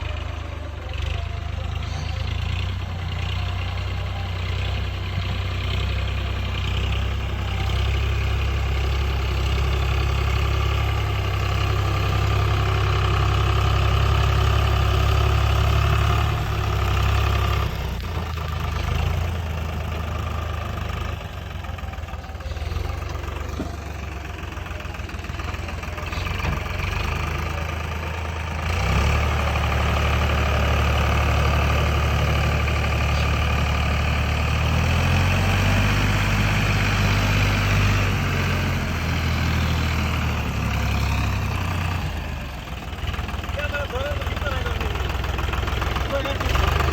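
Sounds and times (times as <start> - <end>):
tractor engine droning: 0.0 - 46.9.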